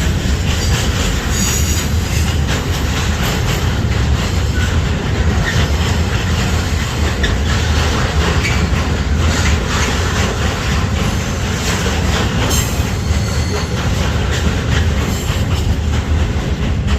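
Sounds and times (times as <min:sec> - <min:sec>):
freight train wheels rumbling: 0:00.0 - 0:16.9
wheels clacking over rail joints: 0:00.0 - 0:16.9.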